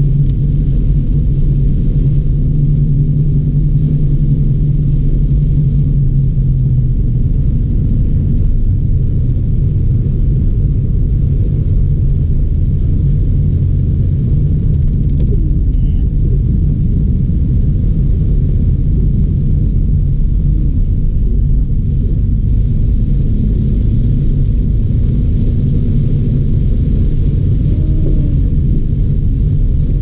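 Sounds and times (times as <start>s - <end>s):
car driving rumble: 0.0s - 30.0s.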